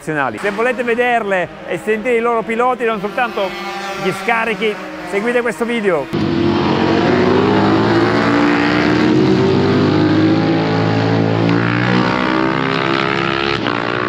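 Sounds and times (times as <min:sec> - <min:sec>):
racing motorcycle engines revving: 0:00.3 - 0:14.0.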